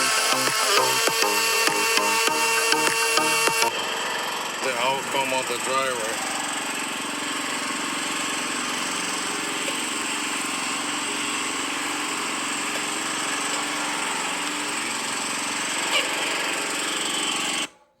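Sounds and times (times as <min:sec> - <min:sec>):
pressure washer engine running: 0:00.0 - 0:17.7.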